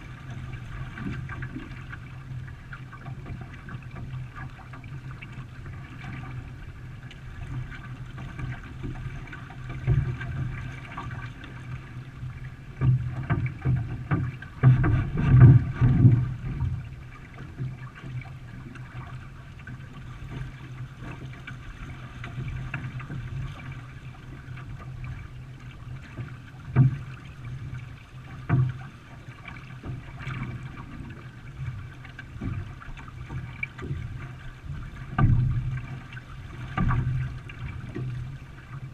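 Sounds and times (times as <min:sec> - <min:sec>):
water splashing around canoe hull: 0:00.0 - 0:38.9
knocks and thumps on hull: 0:00.2 - 0:38.9.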